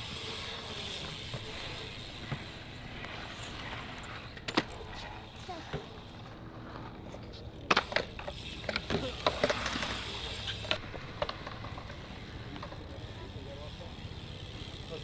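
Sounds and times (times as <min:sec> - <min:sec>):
bike rattling clicks and knocks: 0:00.0 - 0:06.0, 0:06.6 - 0:15.0
bike wheel rumble: 0:00.0 - 0:15.0.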